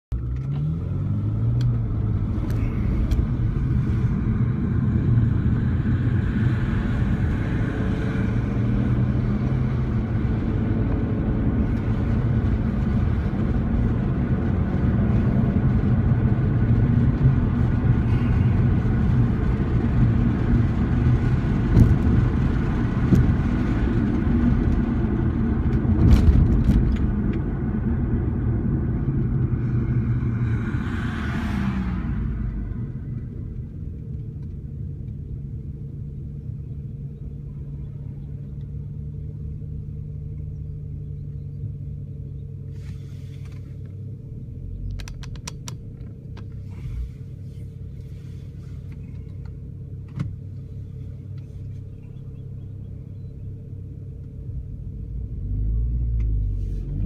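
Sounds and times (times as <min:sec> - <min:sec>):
car cabin engine drone: 0:00.1 - 0:57.0.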